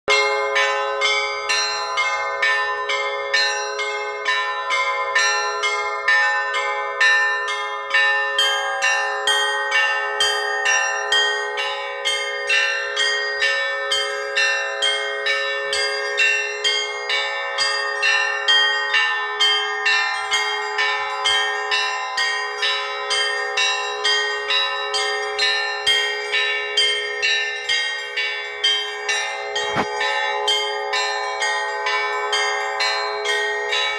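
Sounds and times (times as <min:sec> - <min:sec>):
church bells ringing in a peal: 0:00.1 - 0:33.9.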